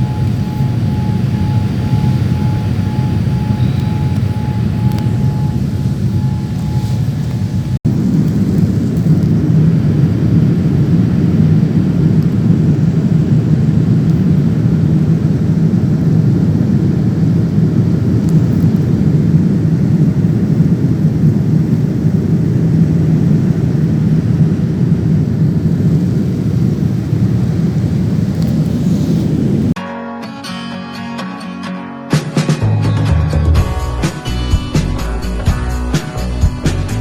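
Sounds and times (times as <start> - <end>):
jet engine rumble inside cabin: 0.0 - 29.8.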